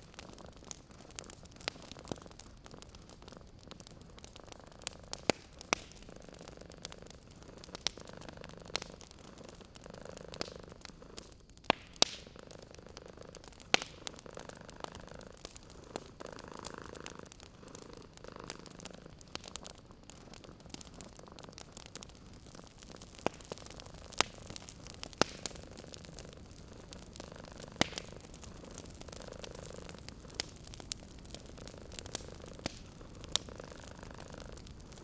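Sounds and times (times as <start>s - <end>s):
wood fire crackling and popping: 0.0s - 35.0s
cat purring: 0.1s - 11.4s, 12.4s - 35.0s.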